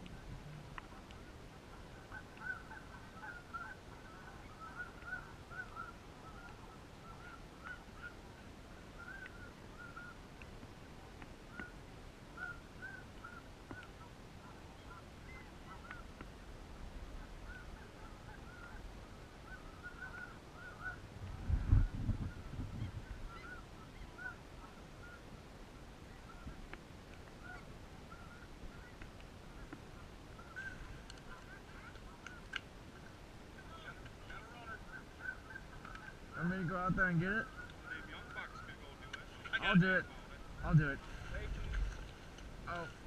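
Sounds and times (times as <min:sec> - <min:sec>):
geese honking: 0:00.1 - 0:10.2, 0:12.3 - 0:16.2, 0:17.2 - 0:21.1, 0:22.3 - 0:25.3, 0:26.0 - 0:26.6, 0:27.4 - 0:43.0.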